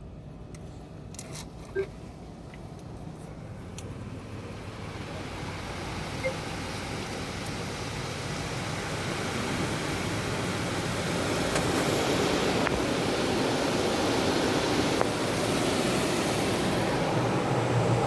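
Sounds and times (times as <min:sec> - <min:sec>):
car wash machinery hum: 0:00.0 - 0:18.0.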